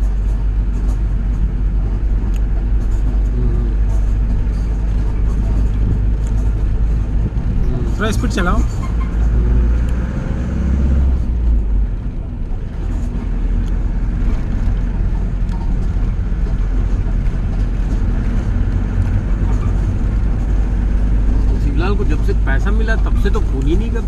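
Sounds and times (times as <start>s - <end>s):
road noise: 0.0s - 24.0s
vehicle engine: 0.0s - 24.0s.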